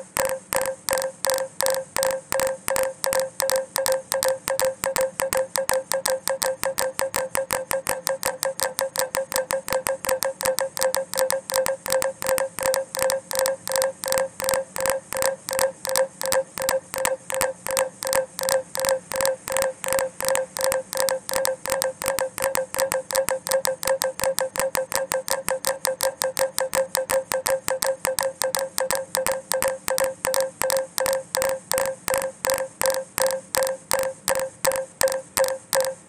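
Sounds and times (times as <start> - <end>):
ticking electronic tone pulses: 0.0 - 36.0.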